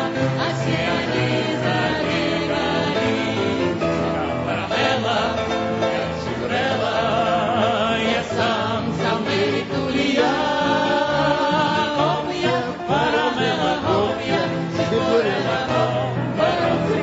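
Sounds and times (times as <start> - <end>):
group singing with instruments: 0.0 - 17.0.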